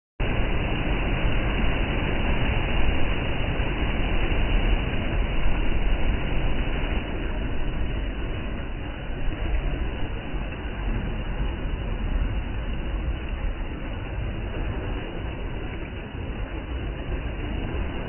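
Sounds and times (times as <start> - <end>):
surf breaking on rocks: 0.2 - 18.0.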